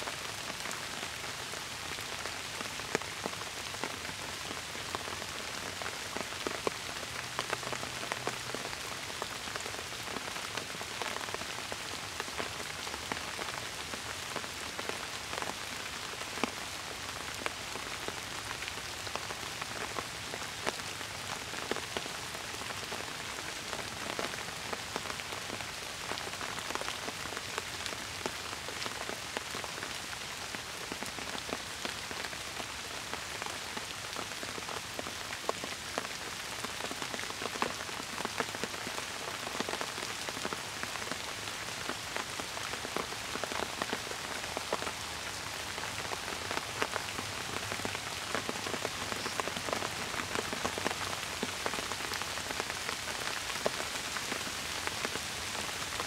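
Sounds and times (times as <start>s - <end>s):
raindrops ticking and splashing: 0.0s - 56.0s
steady rain hiss: 0.0s - 56.0s.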